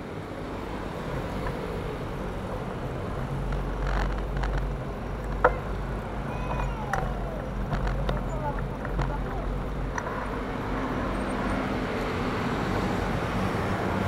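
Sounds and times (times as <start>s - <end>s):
bicycle road rumble: 0.0s - 14.0s
wind: 0.0s - 14.0s.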